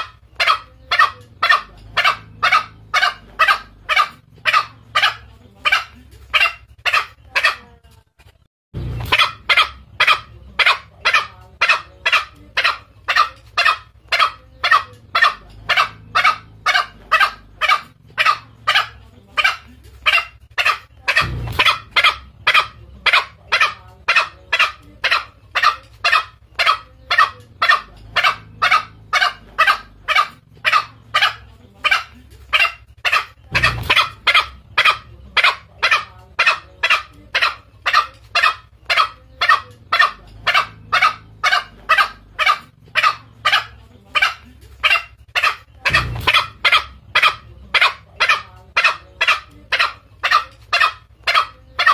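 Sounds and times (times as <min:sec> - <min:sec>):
junglefowl calls: 0:00.0 - 0:07.8, 0:08.9 - 0:51.9.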